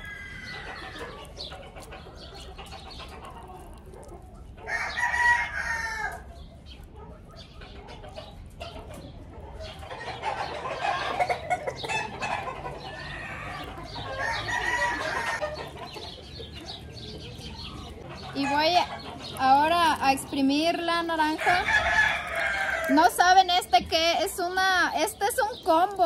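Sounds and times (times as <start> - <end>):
roosters crowing and clucking: 0.0 - 26.0.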